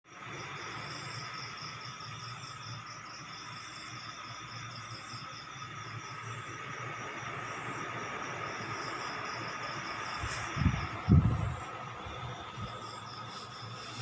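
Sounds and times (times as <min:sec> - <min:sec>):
crickets chirping: 0:00.1 - 0:14.0.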